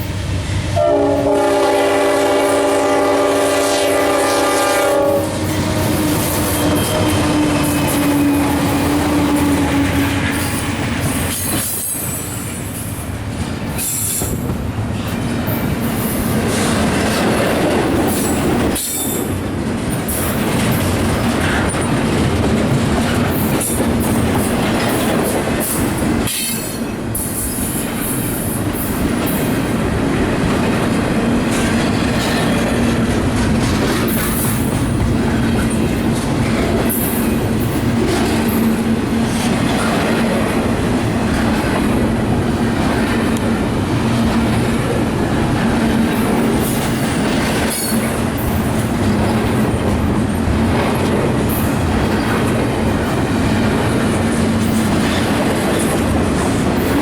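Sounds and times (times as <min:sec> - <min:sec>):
freight train wheels clacking: 0:00.0 - 0:57.0.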